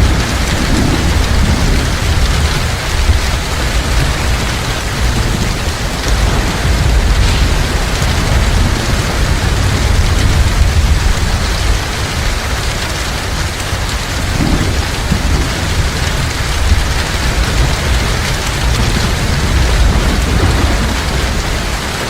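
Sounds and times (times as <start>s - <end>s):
deep rumble of thunder: 0.0s - 22.0s
heavy rain hissing: 0.0s - 22.0s.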